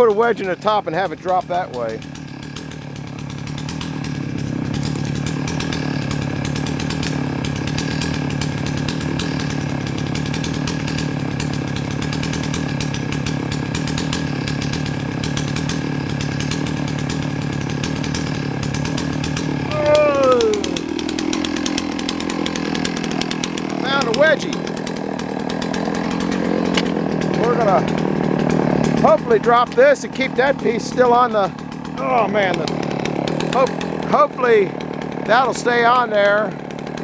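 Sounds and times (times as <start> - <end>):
chainsaw running: 0.0 - 37.0.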